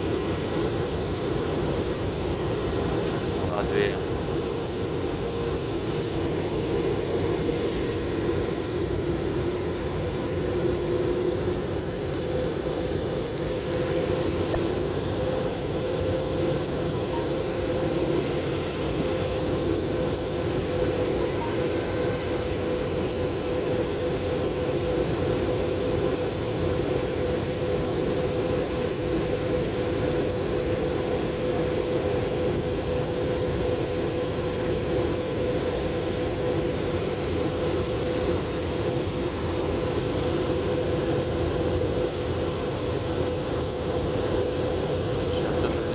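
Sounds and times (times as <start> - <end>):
airliner engines and airflow: 0.0 - 45.9
steady cabin hum: 0.0 - 45.9.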